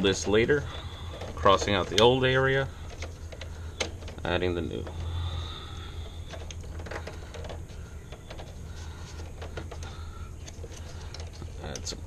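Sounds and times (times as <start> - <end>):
steady low hum: 0.0 - 12.0
wires tapping against metal box: 0.0 - 12.0.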